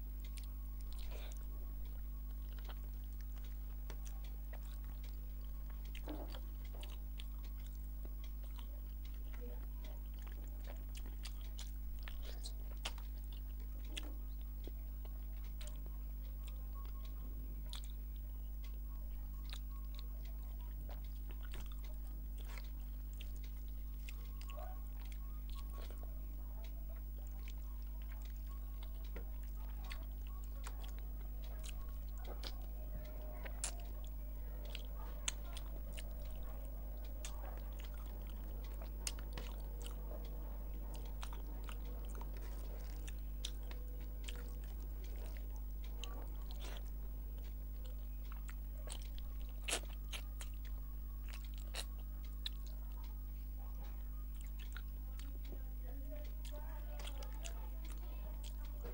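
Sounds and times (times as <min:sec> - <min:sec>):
chewing with wet mouth clicks: 0:00.0 - 0:58.9
low electrical hum: 0:00.0 - 0:58.9.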